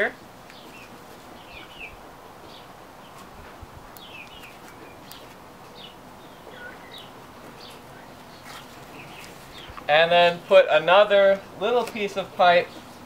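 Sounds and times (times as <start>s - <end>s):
faint outdoor hiss: 0.0s - 13.0s
small birds chirping: 0.1s - 13.0s.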